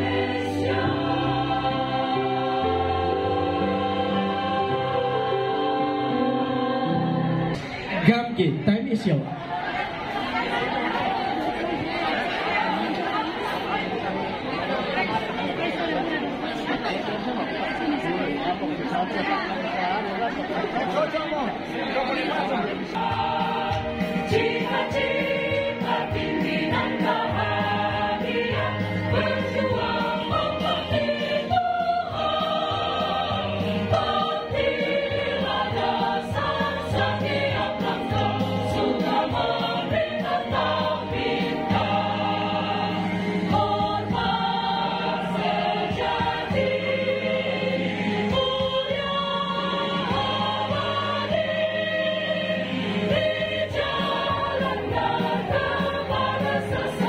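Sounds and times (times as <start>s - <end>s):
choir singing in parts: 0.0s - 7.6s, 9.4s - 14.8s, 21.8s - 57.0s.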